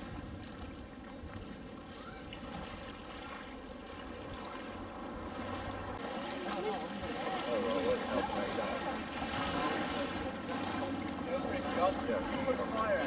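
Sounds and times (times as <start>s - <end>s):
water lapping softly: 0.0s - 13.0s.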